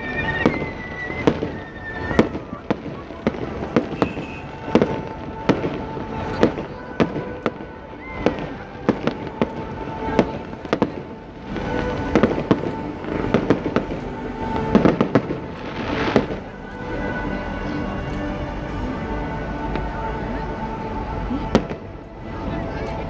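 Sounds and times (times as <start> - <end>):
music playing: 0.0 - 23.0.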